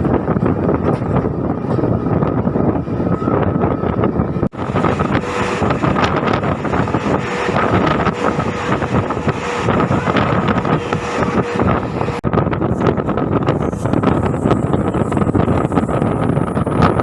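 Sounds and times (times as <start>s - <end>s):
train wheels rumbling on track: 0.0s - 17.0s
wind buffeting microphone: 0.0s - 17.0s.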